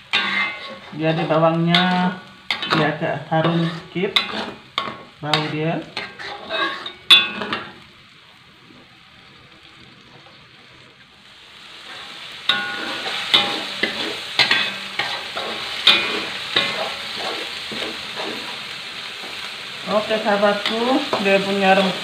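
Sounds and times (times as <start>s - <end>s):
metal spatula scraping wok: 0.0s - 7.8s, 11.7s - 22.0s
paste sizzling in hot oil: 0.0s - 22.0s.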